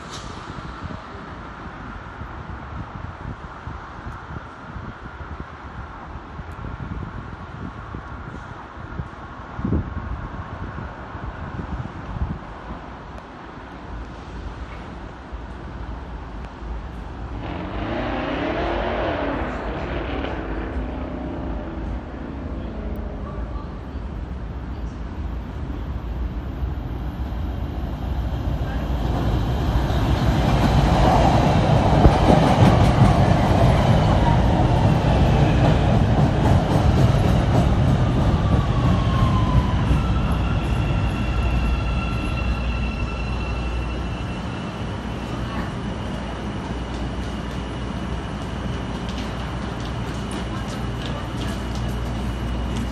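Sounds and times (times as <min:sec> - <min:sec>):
train wheel and track noise: 0:00.0 - 0:52.9.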